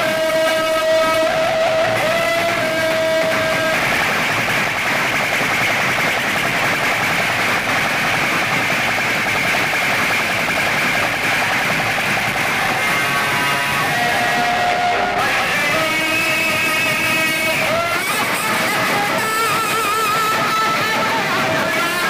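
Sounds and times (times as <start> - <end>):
loud sound system music: 0.0 - 22.0.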